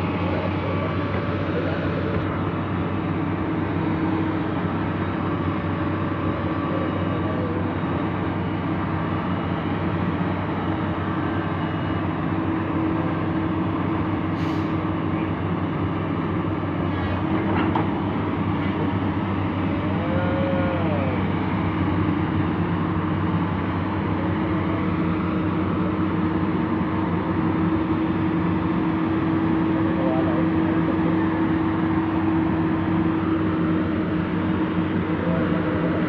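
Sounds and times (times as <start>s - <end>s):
diesel machinery running: 0.0s - 36.0s.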